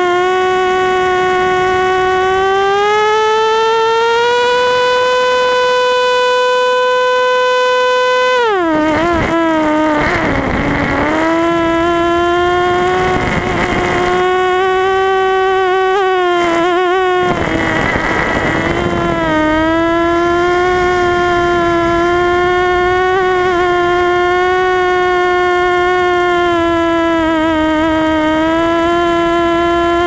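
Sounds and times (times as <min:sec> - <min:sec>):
wind noise: 0:00.0 - 0:03.1, 0:03.9 - 0:30.0
drone motors whining: 0:00.0 - 0:30.0.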